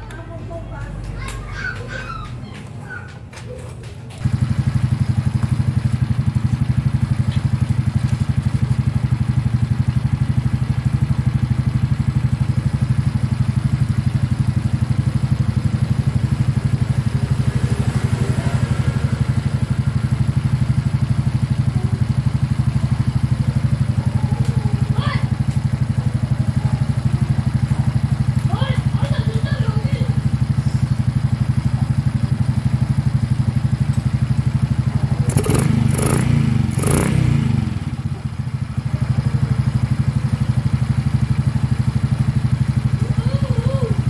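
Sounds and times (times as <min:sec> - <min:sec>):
motorcycle engine starting and idling: 0:00.0 - 0:44.0.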